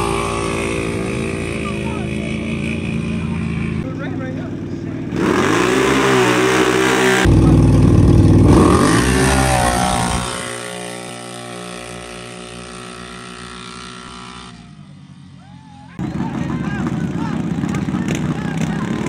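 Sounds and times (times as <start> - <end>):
atv engines revving: 0.0 - 19.0.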